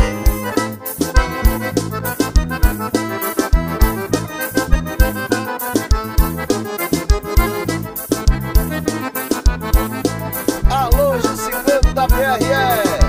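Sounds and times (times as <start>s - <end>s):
accordion playing melody: 0.0s - 13.0s
bass: 0.0s - 13.0s
thumping beat: 0.0s - 13.0s.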